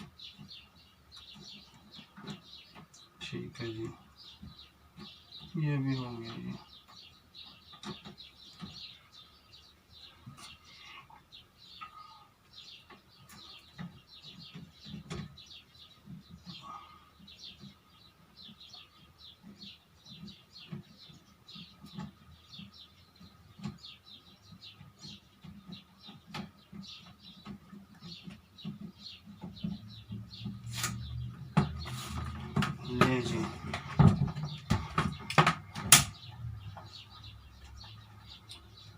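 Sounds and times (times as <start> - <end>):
fan parts clicking and knocking: 0.0 - 9.3, 11.7 - 38.9
small birds chirping: 0.0 - 38.9.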